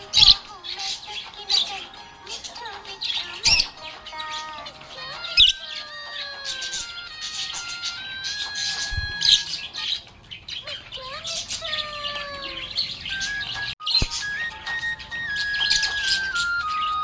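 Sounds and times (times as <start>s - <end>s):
background music: 0.0s - 9.8s, 12.4s - 17.0s
budgerigars chirping: 0.0s - 17.0s.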